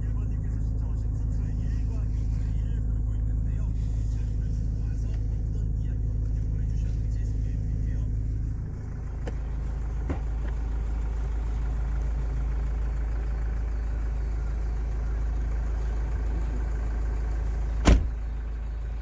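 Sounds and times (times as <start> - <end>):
engine idling hum: 0.0 - 19.0.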